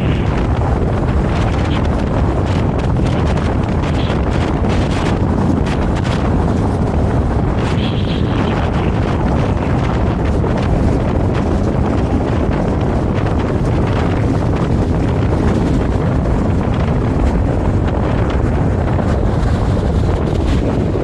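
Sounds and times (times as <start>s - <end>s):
rush of wind: 0.0s - 21.0s
tram wheels rumbling on rails: 0.0s - 21.0s.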